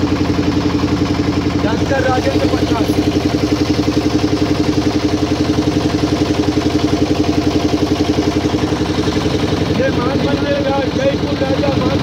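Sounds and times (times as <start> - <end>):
motorboat engine chugging: 0.0 - 12.0.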